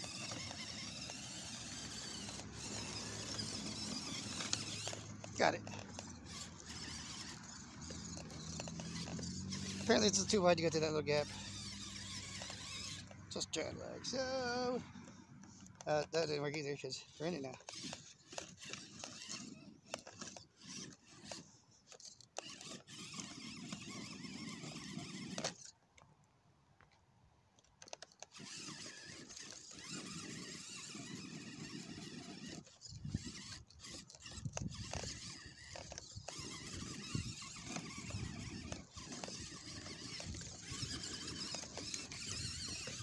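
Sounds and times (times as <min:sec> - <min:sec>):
electric motor whirring: 0:00.0 - 0:25.7, 0:27.9 - 0:43.0.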